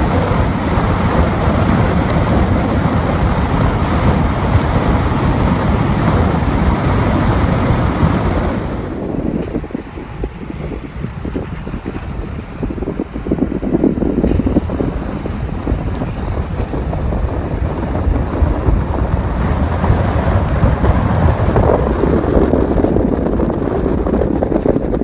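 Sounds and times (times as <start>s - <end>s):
car road noise rumble: 0.0s - 25.0s
wind buffeting microphone: 0.0s - 25.0s.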